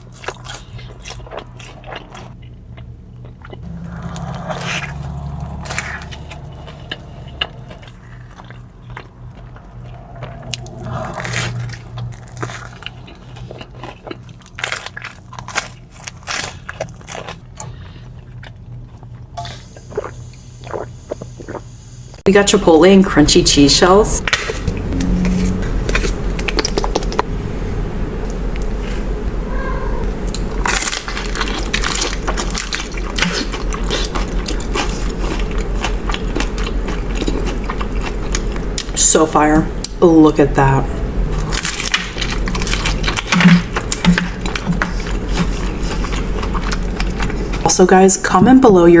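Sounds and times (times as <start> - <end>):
person chewing crisp food: 0.0 - 21.6, 24.3 - 27.3, 30.0 - 39.0, 41.3 - 47.7
low hum: 0.0 - 48.8.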